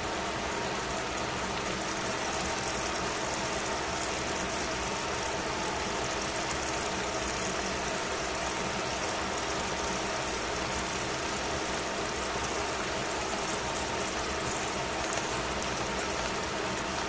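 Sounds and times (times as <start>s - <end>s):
faint steady hum: 0.0s - 17.0s
vegetables sizzling in a pot: 0.0s - 17.0s.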